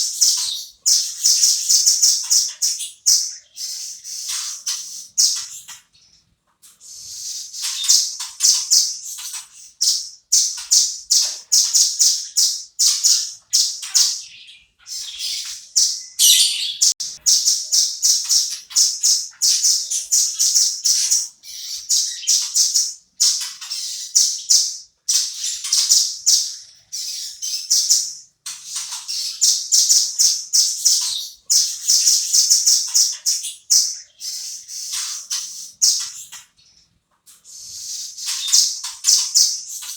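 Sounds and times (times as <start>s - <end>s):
bird sharp high chirps: 0.0s - 6.2s, 6.8s - 39.9s.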